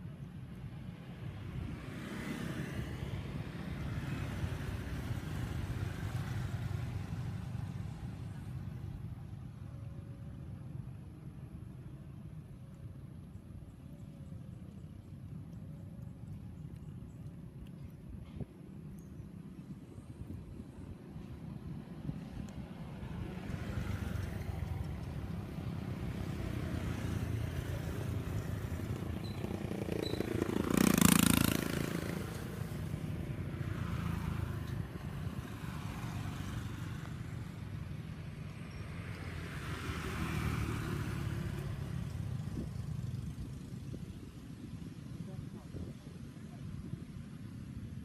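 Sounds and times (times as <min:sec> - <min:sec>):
passing traffic engine rumble: 0:00.0 - 0:48.0.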